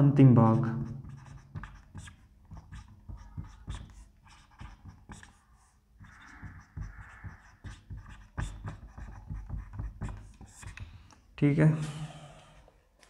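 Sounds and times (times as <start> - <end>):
marker writing on whiteboard: 0.5 - 11.1.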